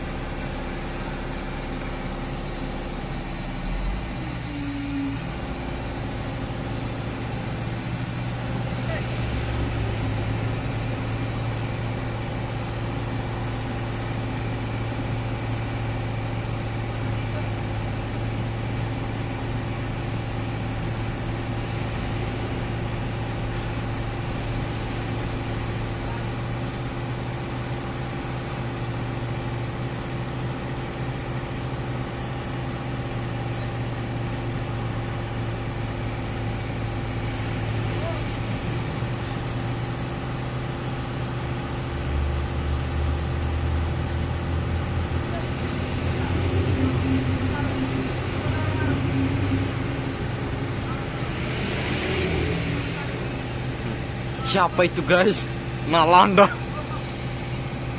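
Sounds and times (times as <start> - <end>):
diesel engine humming: 0.0 - 57.9.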